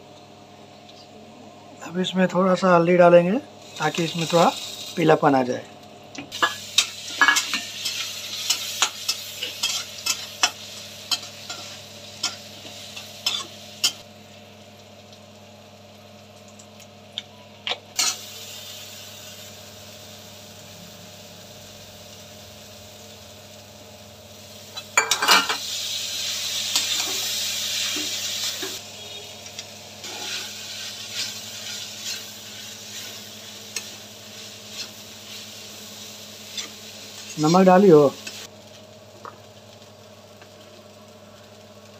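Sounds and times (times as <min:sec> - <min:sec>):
food sizzling in hot oil: 0:03.4 - 0:41.9.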